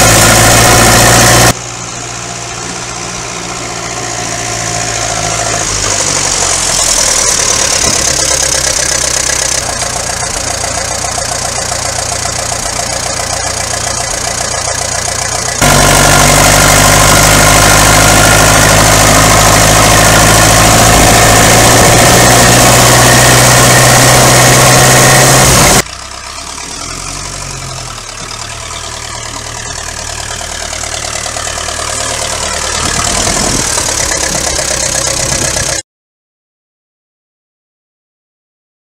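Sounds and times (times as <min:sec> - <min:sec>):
tractor engine running: 0:00.0 - 0:35.8.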